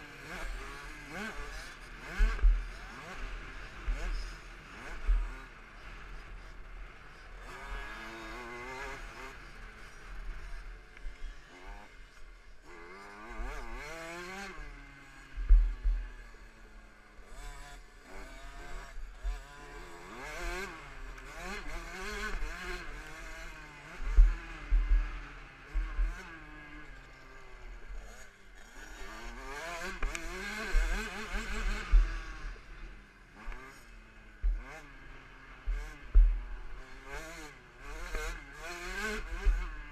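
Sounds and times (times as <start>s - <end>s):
motorbike engine revving: 0.0s - 12.0s, 12.6s - 39.9s.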